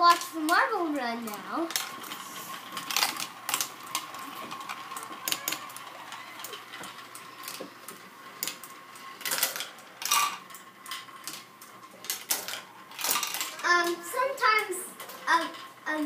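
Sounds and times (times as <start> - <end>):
marbles clattering on plastic tracks: 0.0 - 16.0
motorized lift whine: 0.4 - 16.0.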